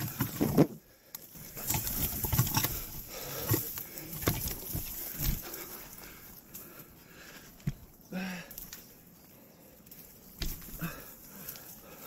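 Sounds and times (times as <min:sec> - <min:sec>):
footsteps on rough ground: 0:00.0 - 0:12.0
mountain bike being pushed: 0:00.0 - 0:12.0.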